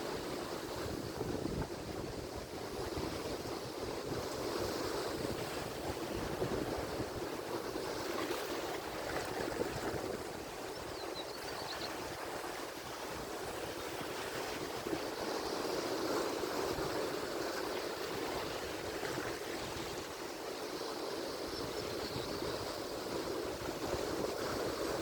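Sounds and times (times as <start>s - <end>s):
waves breaking: 0.0s - 25.0s
wind rumbling on microphone: 0.0s - 25.0s.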